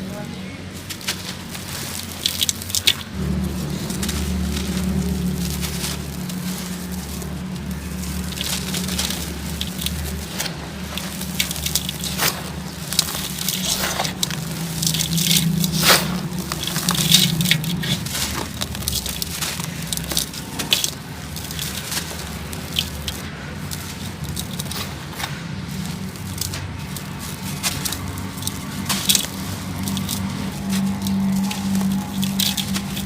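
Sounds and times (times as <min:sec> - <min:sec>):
cement chunks crunching: 0:00.0 - 0:33.0.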